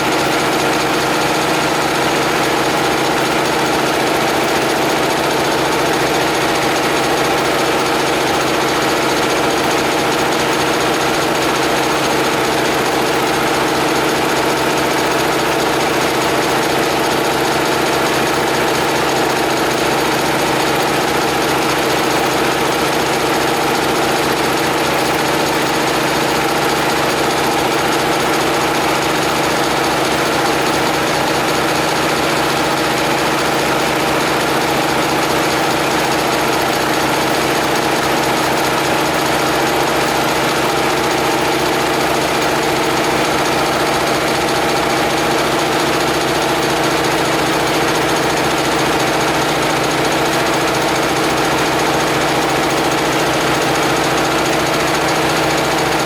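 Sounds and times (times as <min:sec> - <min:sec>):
air compressor humming and rattling: 0:00.0 - 0:56.0.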